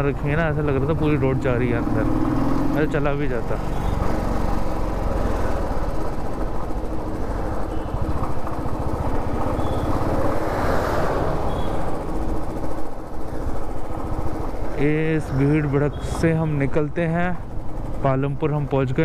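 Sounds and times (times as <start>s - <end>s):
motorcycle engine running: 0.0s - 18.7s
road and wind noise: 0.0s - 19.0s.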